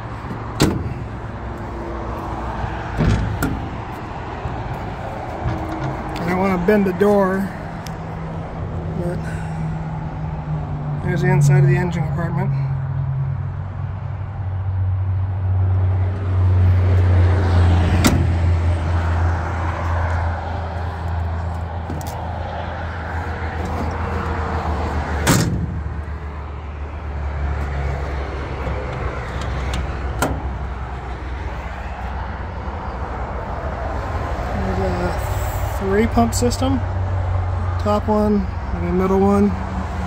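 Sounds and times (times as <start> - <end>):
heavy equipment engine hum: 0.0 - 11.8, 13.0 - 35.7.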